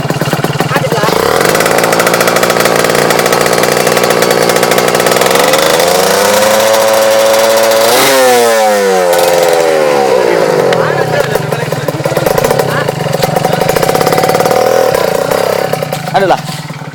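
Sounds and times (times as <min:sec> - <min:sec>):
motorcycle engine idling and revving: 0:00.0 - 0:16.9.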